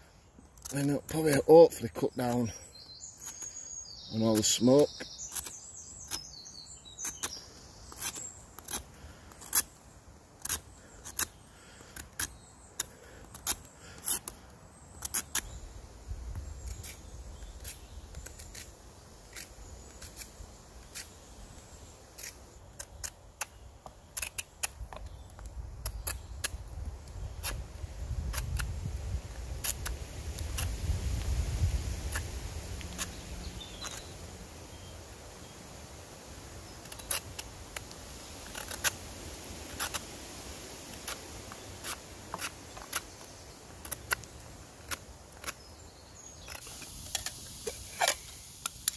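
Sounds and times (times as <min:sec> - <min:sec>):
knife scraping bark off logs: 0:00.6 - 0:01.5, 0:02.1 - 0:15.6, 0:16.3 - 0:34.2, 0:36.7 - 0:48.9.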